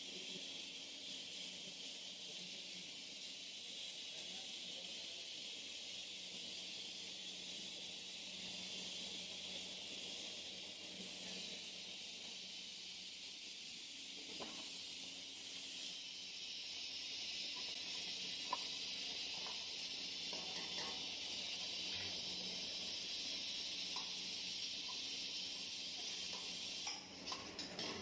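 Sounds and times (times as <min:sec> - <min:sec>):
sauce hissing in a wok: 0:00.0 - 0:28.0.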